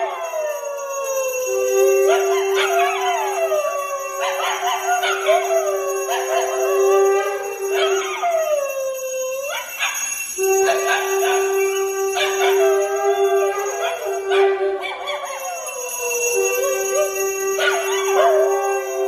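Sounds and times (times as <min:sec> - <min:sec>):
dog howling: 0:00.0 - 0:19.0.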